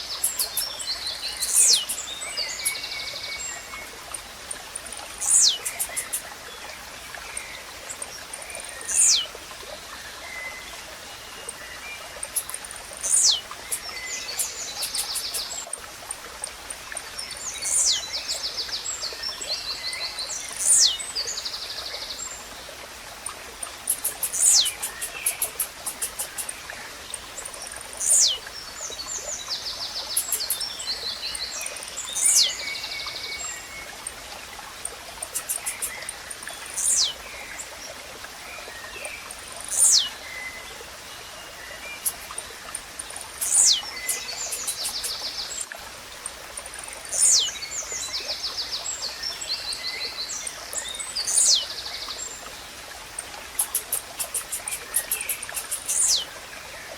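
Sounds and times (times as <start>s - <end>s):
bird song with buzzy ticking: 0.0s - 56.9s
running water hiss: 0.0s - 56.9s.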